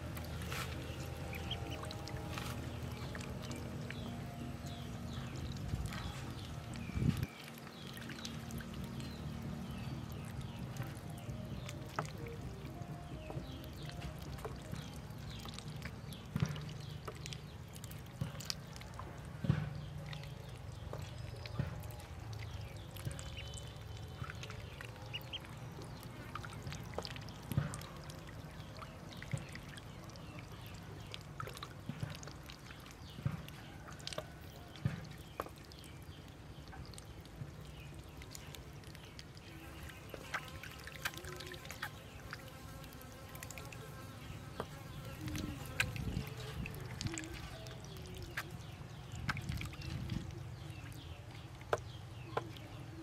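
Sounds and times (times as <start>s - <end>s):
ducklings splashing in water: 0.0s - 53.0s
faint duckling peeping: 0.2s - 53.0s.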